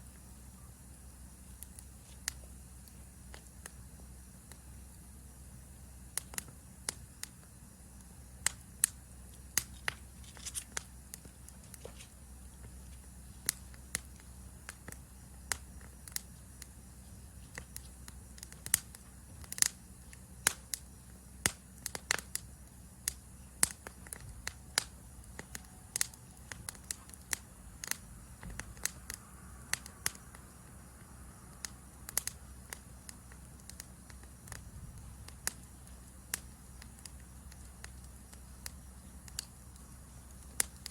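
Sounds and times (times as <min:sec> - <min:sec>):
campfire crackling and popping: 0:00.1 - 0:40.9.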